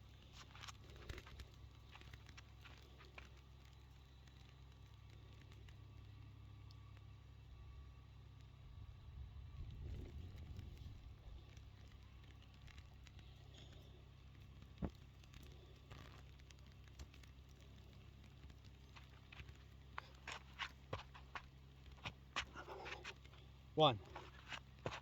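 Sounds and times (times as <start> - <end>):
faint low rumble: 0.0 - 25.0.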